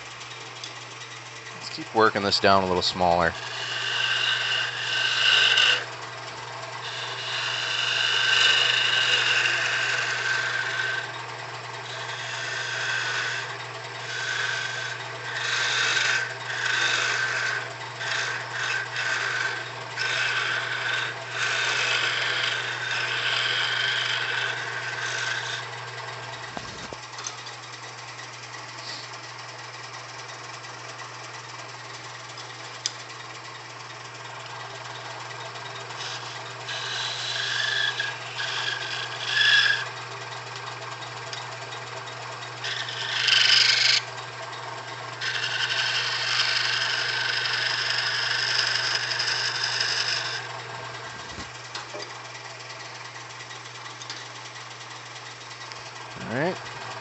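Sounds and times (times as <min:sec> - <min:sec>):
turning tool scraping wood: 0:00.0 - 0:29.2, 0:31.8 - 0:57.0
lathe motor hum: 0:00.0 - 0:57.0.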